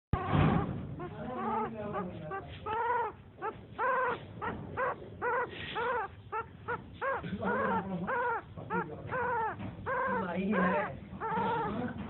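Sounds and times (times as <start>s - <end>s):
puppy whining squeaks: 0.2s - 12.0s.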